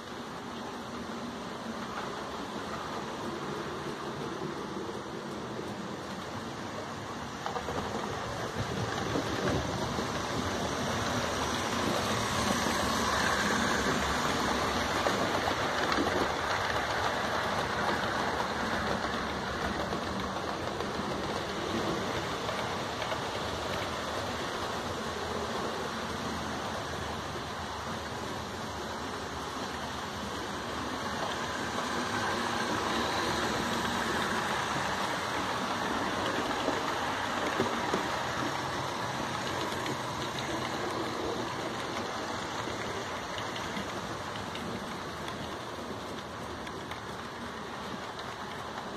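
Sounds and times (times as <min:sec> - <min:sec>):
model trains rumbling on rails: 0:00.0 - 0:48.9.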